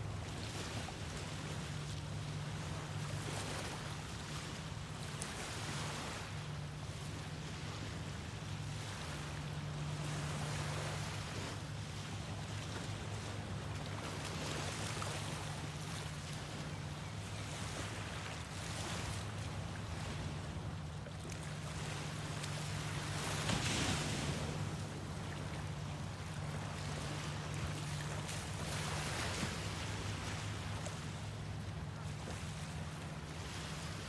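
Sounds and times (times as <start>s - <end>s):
ocean waves breaking on beach: 0.0s - 34.0s
steady low hum: 0.0s - 34.0s.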